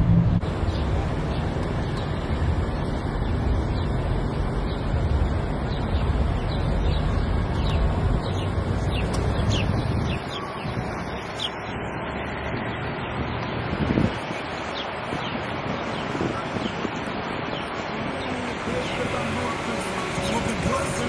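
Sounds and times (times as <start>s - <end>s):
traffic rumble: 0.0s - 21.0s
birds chirping: 0.5s - 21.0s.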